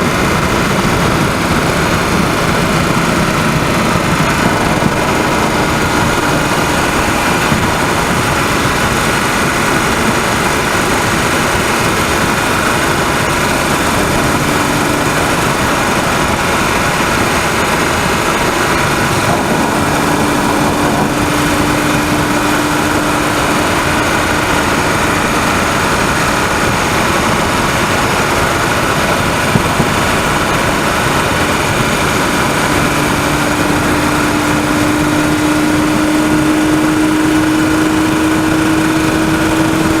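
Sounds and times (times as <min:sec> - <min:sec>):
car engine running at speed: 0:00.0 - 0:40.0.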